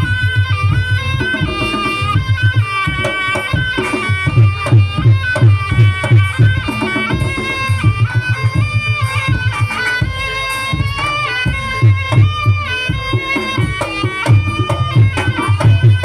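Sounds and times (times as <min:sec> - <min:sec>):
low drum beats: 0:00.0 - 0:16.0
reedy wind instrument melody: 0:00.0 - 0:16.0.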